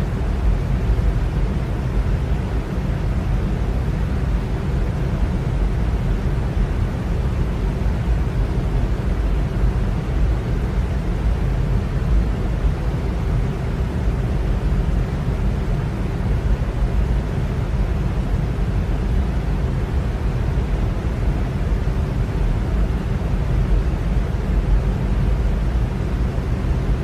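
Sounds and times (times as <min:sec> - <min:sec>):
electric fan running: 0:00.0 - 0:27.0.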